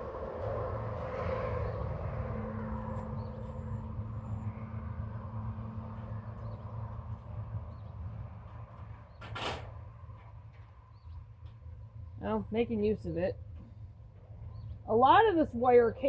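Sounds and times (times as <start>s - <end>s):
distant engine rumble: 0.0s - 16.0s.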